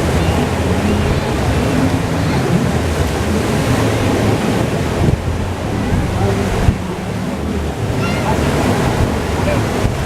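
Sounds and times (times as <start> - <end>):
rushing water: 0.0 - 10.0
wind buffeting microphone: 0.0 - 10.0.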